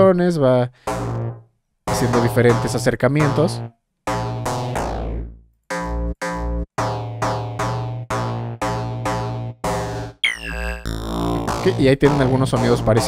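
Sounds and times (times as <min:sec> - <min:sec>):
distorted synth bass notes: 0:00.9 - 0:13.0.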